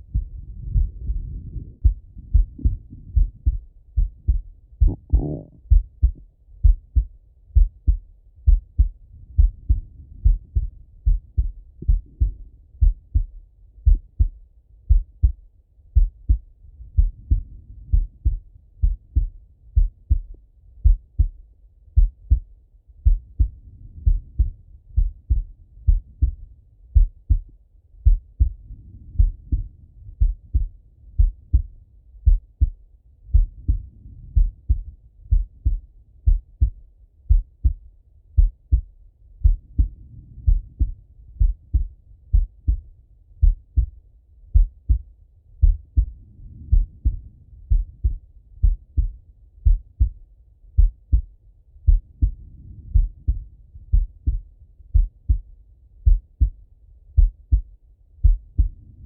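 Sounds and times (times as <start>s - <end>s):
heartbeat thumps: 0.0s - 58.8s.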